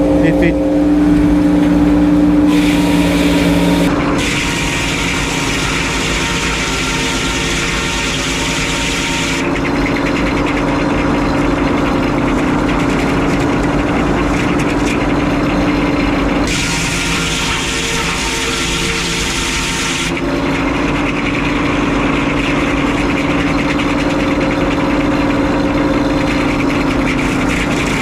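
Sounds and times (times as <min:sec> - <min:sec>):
sawmill mechanical hum: 0:00.0 - 0:28.0
fast rattle: 0:02.5 - 0:28.0.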